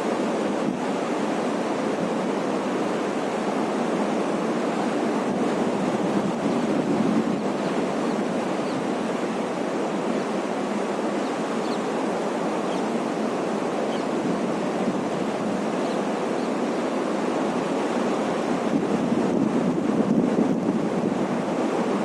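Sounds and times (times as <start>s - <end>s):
river water rushing: 0.0s - 19.4s.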